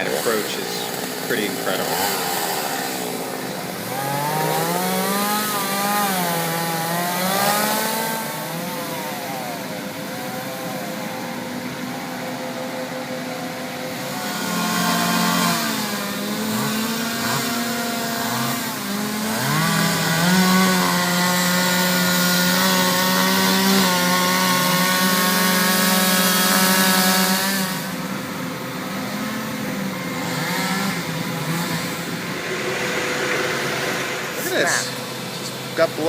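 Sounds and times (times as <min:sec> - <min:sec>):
chainsaw engine revving: 0:00.0 - 0:36.0.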